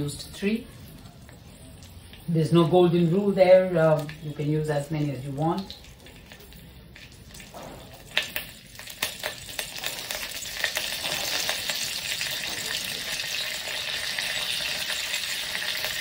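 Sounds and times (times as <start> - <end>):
chilies sizzling in hot oil: 0.0 - 16.0.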